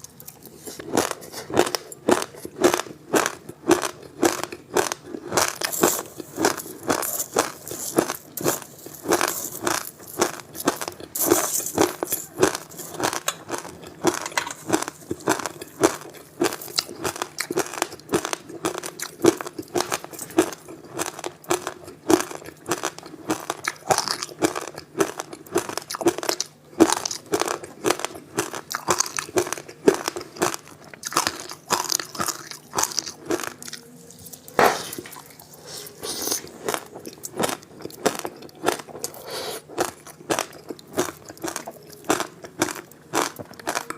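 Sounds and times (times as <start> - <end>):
crunchy ice being chewed: 0.0 - 43.9.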